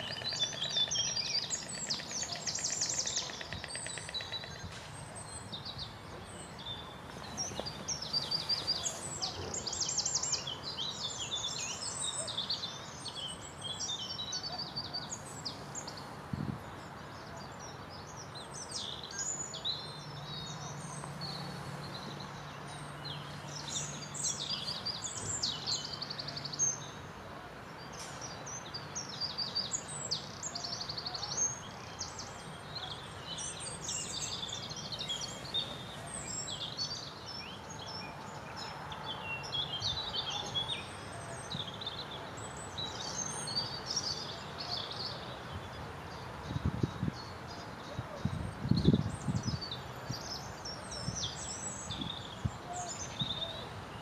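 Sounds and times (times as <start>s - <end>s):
songbirds chirping and trilling: 0.0s - 54.0s
steady outdoor hiss: 0.0s - 54.0s.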